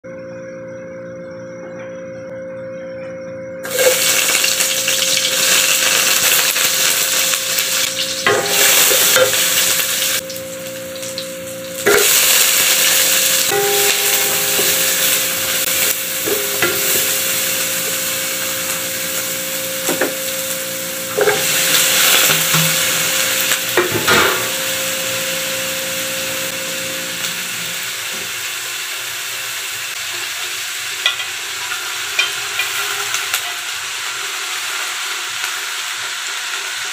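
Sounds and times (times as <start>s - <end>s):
onions sizzling in hot oil: 3.6s - 36.9s.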